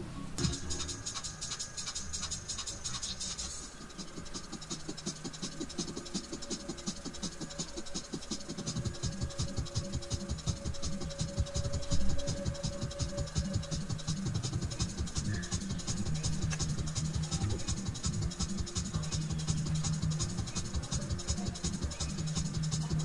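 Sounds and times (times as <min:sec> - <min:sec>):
background music: 0:00.0 - 0:23.0
quick rattling shaker beat: 0:00.4 - 0:23.0.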